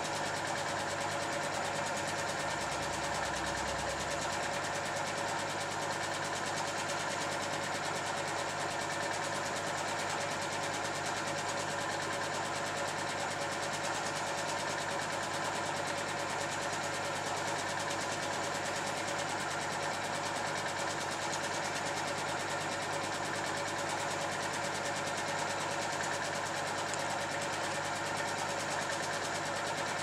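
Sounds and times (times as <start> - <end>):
film projector whirring and clattering: 0.0 - 30.0.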